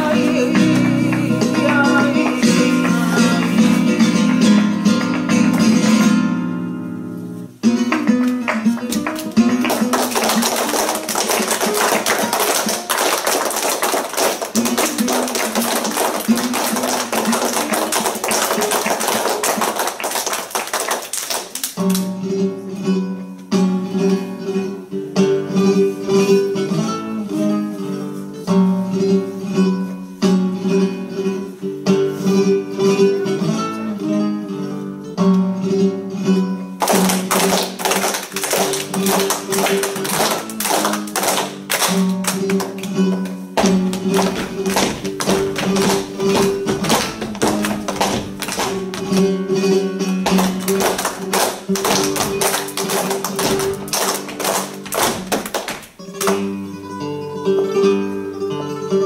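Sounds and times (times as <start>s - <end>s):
flamenco guitar music: 0.0s - 59.0s.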